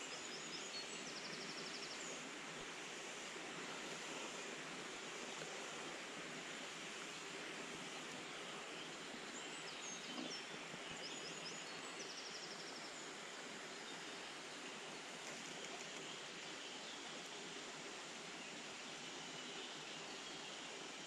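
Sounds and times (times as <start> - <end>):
river water over stones: 0.0 - 21.0.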